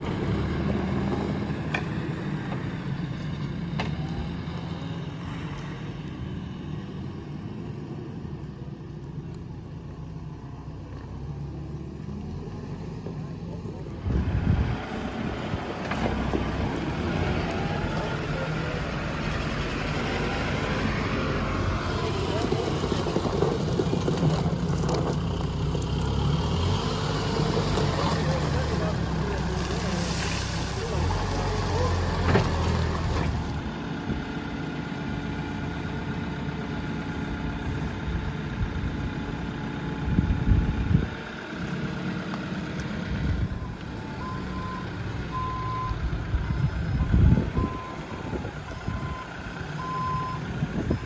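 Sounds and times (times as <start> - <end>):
heavy engine humming: 0.0 - 51.0.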